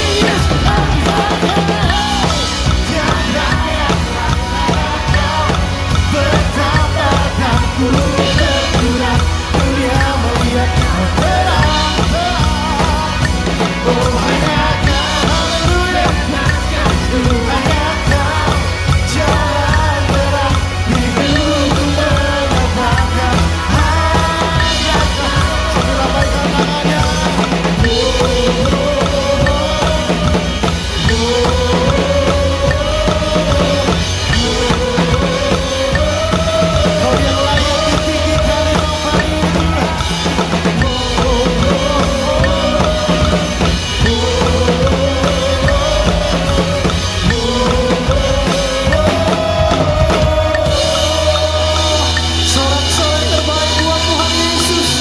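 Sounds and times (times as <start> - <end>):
bass drum and snare: 0.0 - 55.0
live band playing: 0.0 - 55.0.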